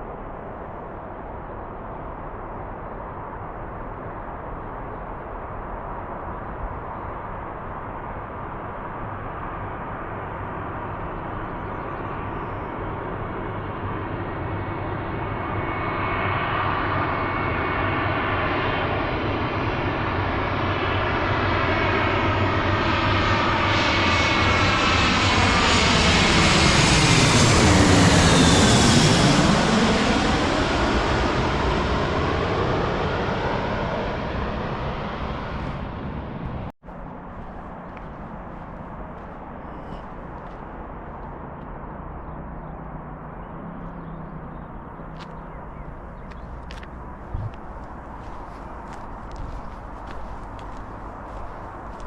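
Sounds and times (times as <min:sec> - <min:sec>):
airliner engine roar passing overhead: 0:00.0 - 0:52.0.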